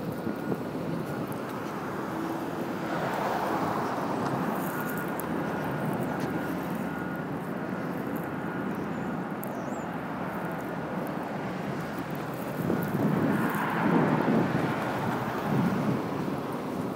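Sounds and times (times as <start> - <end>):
vehicle rumble: 0.0 - 16.9.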